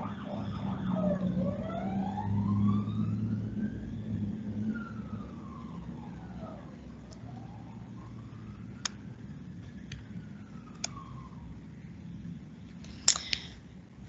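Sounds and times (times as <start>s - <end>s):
emergency vehicle siren wailing: 0.0s - 12.1s.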